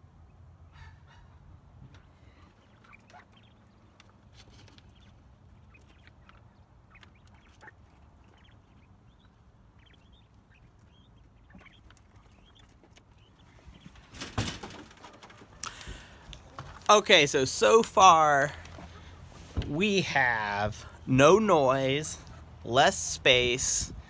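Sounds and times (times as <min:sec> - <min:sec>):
quail peeping: 0:00.3 - 0:16.8, 0:18.0 - 0:24.0.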